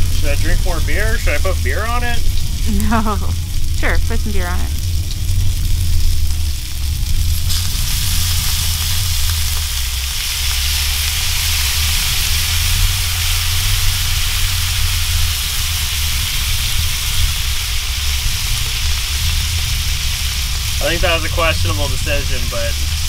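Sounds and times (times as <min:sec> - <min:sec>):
fish sizzling in a pan: 0:00.0 - 0:03.8, 0:04.6 - 0:23.0
steady low rumble: 0:00.0 - 0:23.0.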